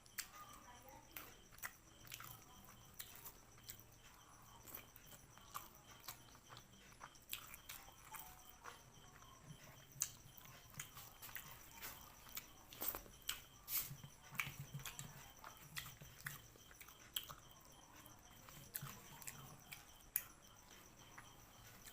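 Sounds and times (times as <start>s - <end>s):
wet chewing and crunching: 0.0s - 21.9s.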